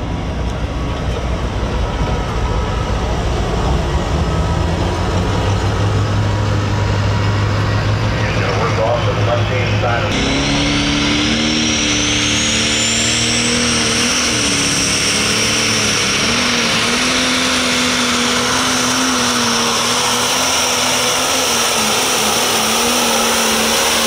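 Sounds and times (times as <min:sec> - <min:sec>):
diesel engine running under load: 0:00.0 - 0:24.0
high turbo whine: 0:00.0 - 0:24.0.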